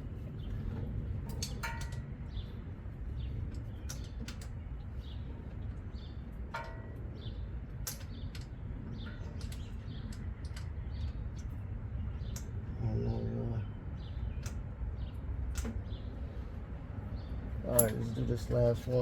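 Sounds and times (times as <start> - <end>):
birds chirping: 0.0 - 19.0
low background rumble: 0.0 - 19.0.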